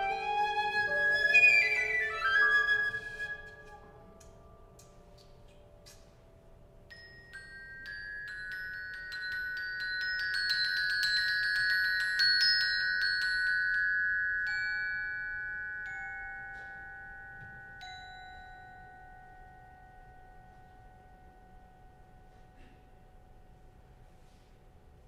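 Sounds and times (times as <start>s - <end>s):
glockenspiel notes: 0.0s - 5.9s, 6.6s - 24.4s.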